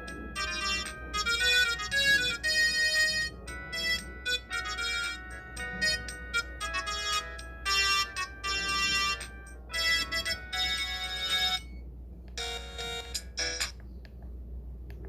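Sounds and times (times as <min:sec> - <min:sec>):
phone ringtone electronic melody: 0:00.0 - 0:13.8.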